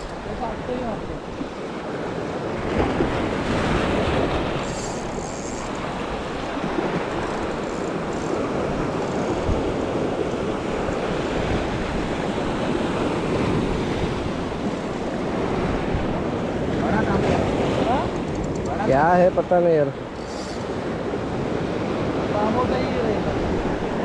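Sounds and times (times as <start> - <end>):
waves breaking on rocky shore: 0.0 - 24.0
wind buffeting microphone: 0.0 - 24.0.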